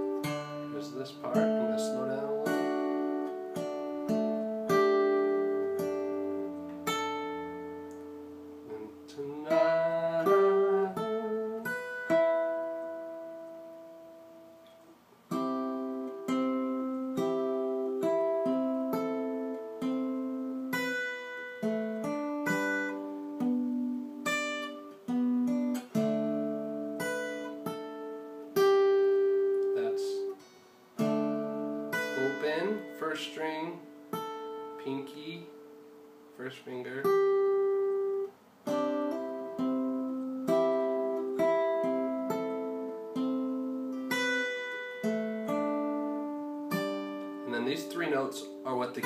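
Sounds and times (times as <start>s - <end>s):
fingerpicked acoustic guitar: 0.0s - 49.0s.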